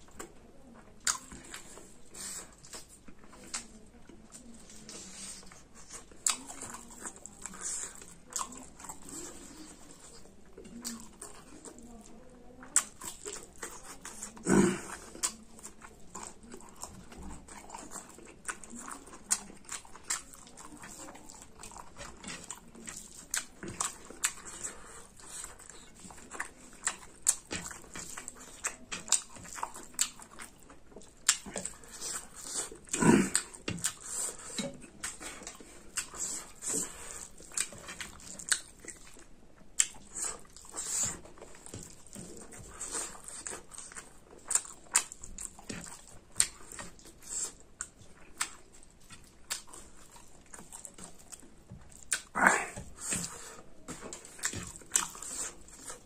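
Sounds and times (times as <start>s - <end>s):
wet chewing and lip smacking: 0.0s - 56.0s.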